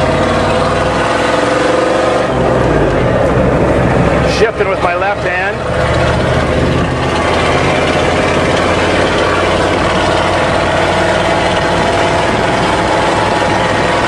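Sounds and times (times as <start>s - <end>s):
diesel truck engine running: 0.0s - 14.0s
road noise: 0.0s - 14.0s.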